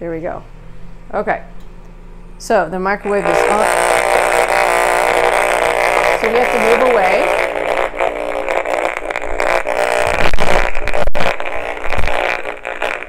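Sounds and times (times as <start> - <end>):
meter speaker buzzing: 0.0 - 13.0.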